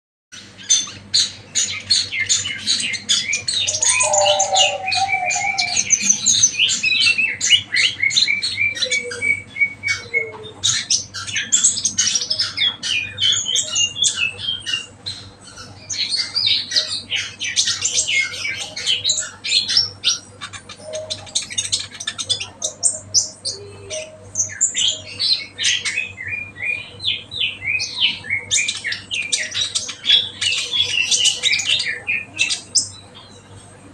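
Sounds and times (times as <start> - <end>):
songbirds twittering and trilling: 0.3 - 33.9.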